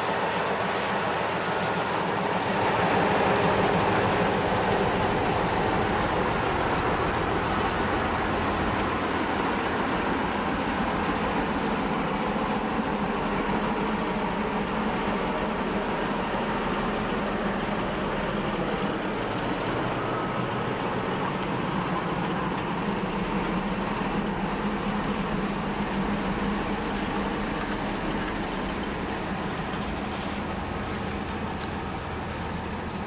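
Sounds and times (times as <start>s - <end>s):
diesel locomotive engine drone: 0.0s - 33.0s
wheel and rail noise: 0.0s - 33.0s.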